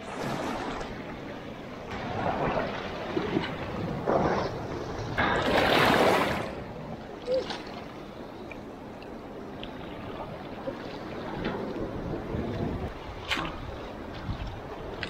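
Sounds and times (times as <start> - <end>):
seawater sloshing over rocks: 0.0 - 15.0.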